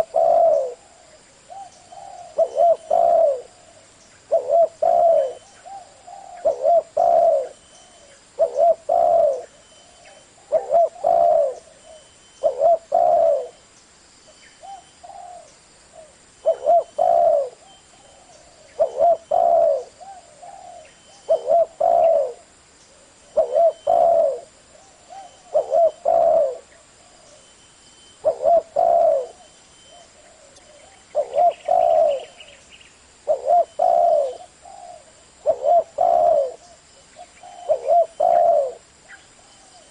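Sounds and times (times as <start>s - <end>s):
dove cooing: 0.0s - 13.6s, 14.6s - 27.4s, 28.1s - 32.6s, 33.2s - 39.9s.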